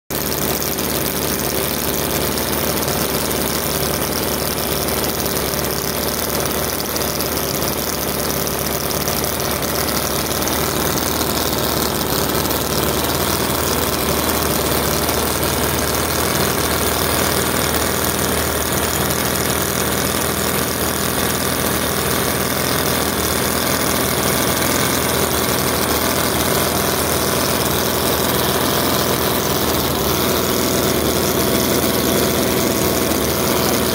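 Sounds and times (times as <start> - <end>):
model engine running: 0.1 - 33.9.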